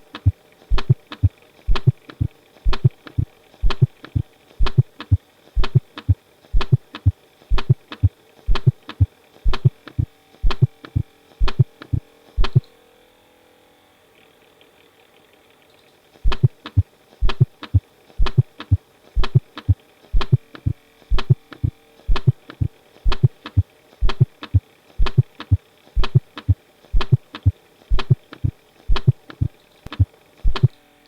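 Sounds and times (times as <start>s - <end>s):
heartbeat: 0.0s - 12.7s, 16.3s - 30.7s
faint hum: 0.0s - 12.8s, 14.4s - 31.0s.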